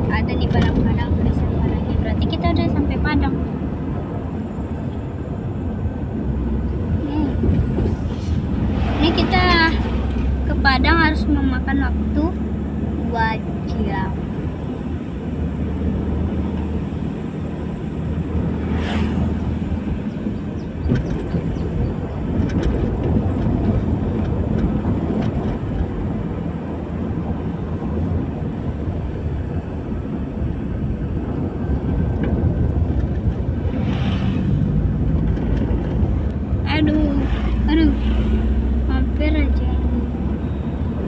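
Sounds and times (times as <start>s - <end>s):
car engine and road noise: 0.0s - 41.0s
vehicle passing: 0.0s - 41.0s.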